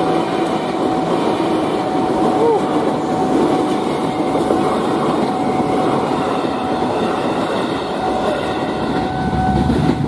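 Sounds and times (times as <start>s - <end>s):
train wheels rushing on rails: 0.0s - 10.0s.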